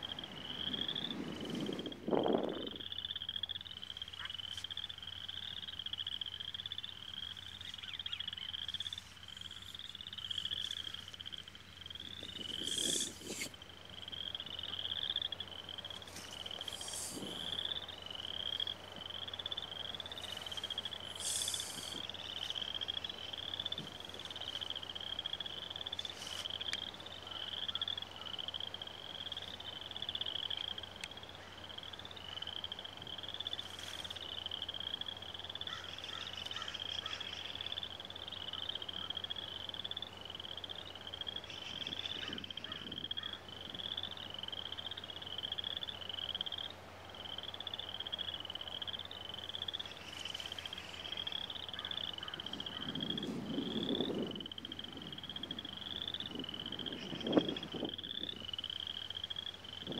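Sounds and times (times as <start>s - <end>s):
frogs trilling: 0.0s - 59.9s.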